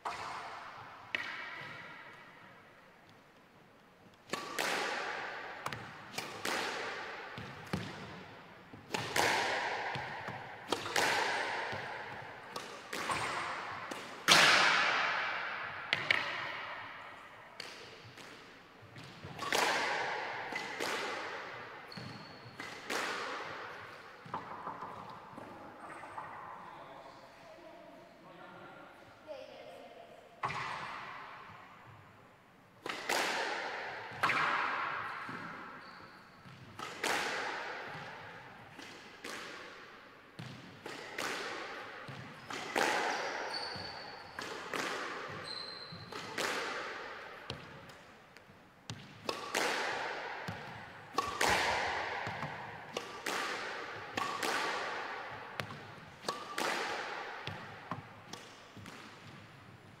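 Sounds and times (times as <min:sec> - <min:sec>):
squash racket striking ball: 0:00.0 - 0:02.5, 0:04.0 - 0:26.3, 0:30.4 - 0:31.6, 0:32.8 - 0:35.8, 0:36.4 - 1:00.0.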